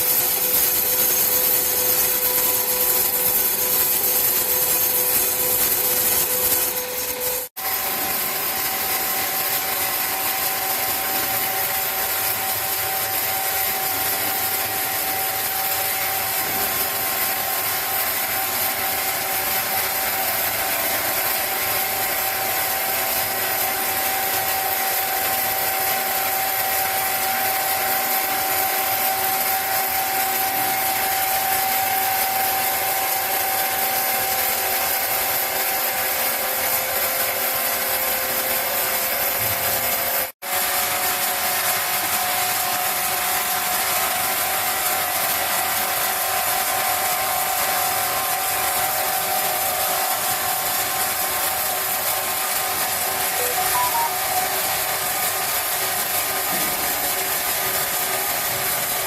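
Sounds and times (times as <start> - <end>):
sawmill saw cutting wood: 0.0 - 59.0.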